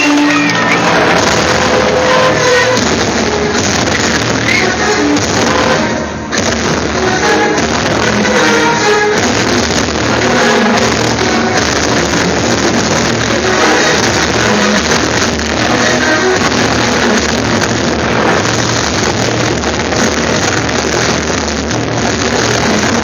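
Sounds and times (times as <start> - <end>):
loud distorted music: 0.0 - 23.0
steady low drone: 0.0 - 23.0.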